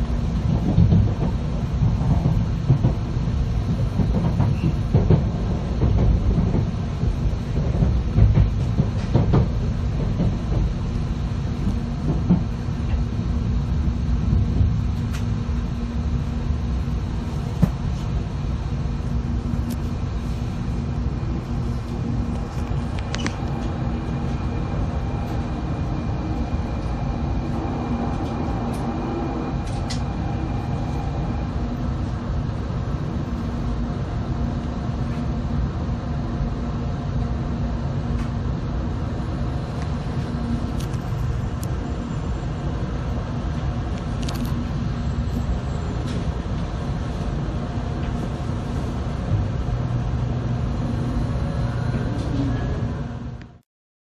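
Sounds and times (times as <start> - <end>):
train running rumble: 0.0 - 53.6.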